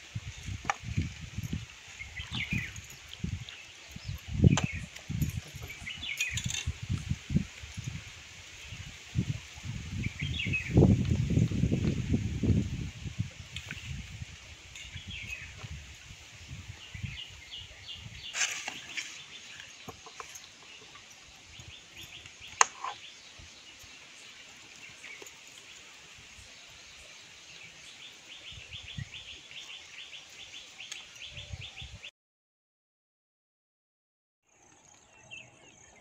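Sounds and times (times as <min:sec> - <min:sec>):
low rumble of wind: 0:00.0 - 0:30.5.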